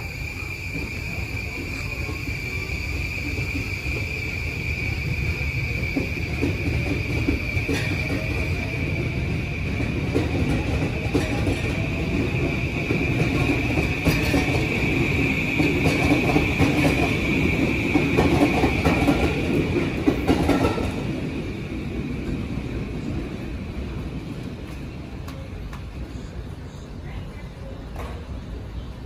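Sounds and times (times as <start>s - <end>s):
train rumble: 0.0s - 29.0s.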